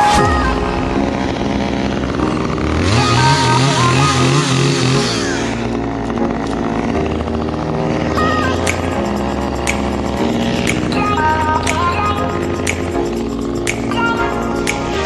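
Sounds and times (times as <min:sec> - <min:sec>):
background music: 0:00.0 - 0:15.0
chainsaw running and revving: 0:01.2 - 0:13.6.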